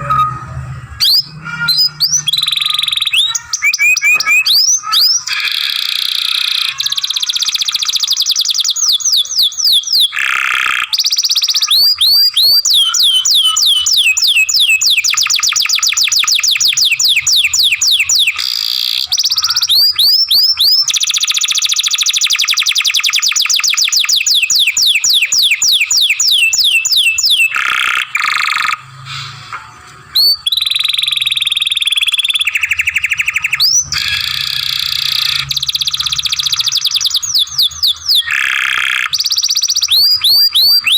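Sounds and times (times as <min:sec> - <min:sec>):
canary singing: 0:00.0 - 0:28.9, 0:30.1 - 0:40.9.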